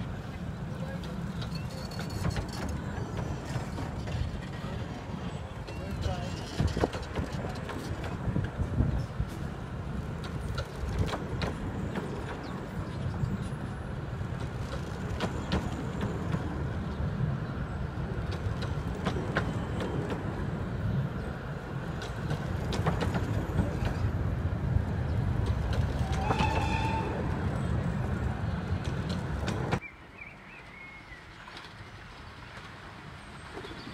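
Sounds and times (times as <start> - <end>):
wheels clanking on rails: 0.0 - 29.8
train rumbling past: 0.0 - 29.9.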